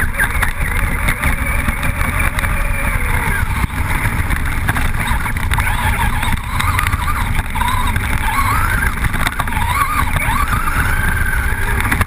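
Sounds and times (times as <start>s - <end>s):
electric motor whine: 0.0s - 12.0s
wind buffeting on microphone: 0.0s - 12.0s.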